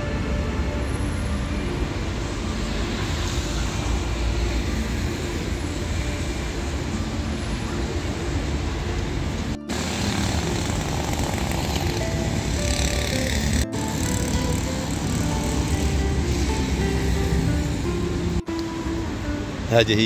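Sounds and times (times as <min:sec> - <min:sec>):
city traffic on wet streets: 0:00.0 - 0:20.0.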